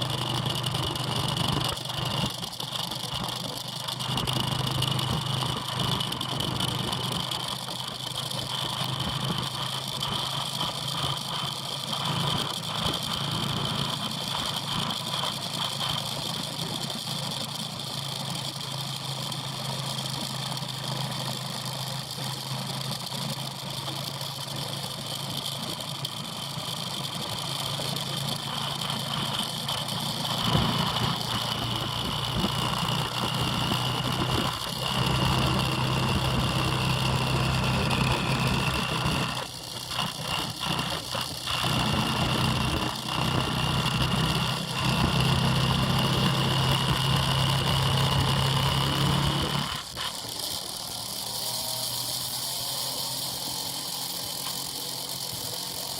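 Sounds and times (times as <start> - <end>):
motorbike engine with whine: 0.0 - 55.9.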